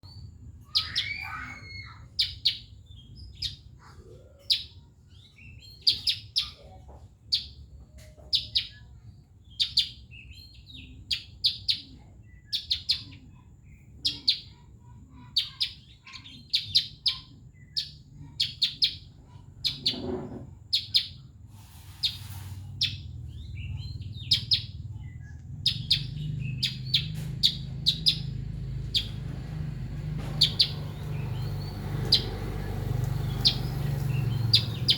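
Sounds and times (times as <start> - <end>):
songbird chirping: 0.0 - 34.9.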